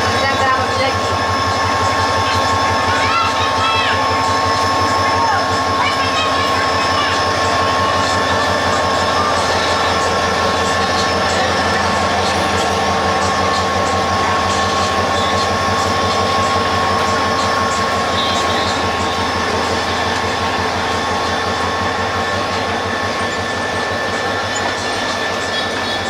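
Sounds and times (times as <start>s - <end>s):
locomotive engine drone: 0.0s - 26.0s
rail rumble: 0.0s - 26.0s
steady whining tones: 0.0s - 26.0s.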